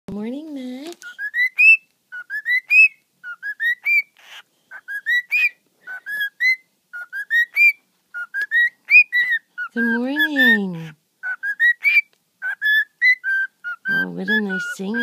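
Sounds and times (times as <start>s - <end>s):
cockatiel whistling a tune: 1.0s - 10.6s, 11.2s - 15.0s.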